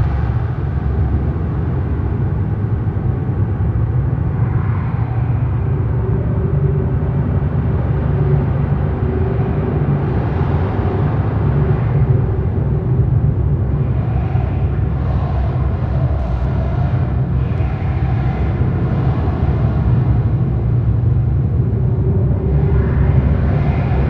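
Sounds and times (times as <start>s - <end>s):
low rumbling drone: 0.0s - 24.0s.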